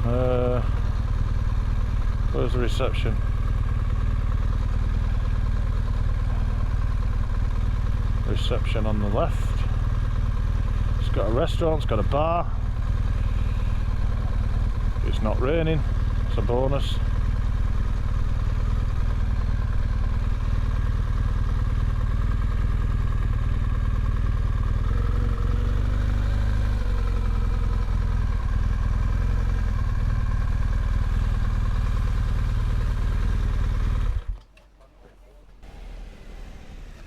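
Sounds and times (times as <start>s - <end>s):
motorcycle engine running at low revs: 0.0s - 34.4s.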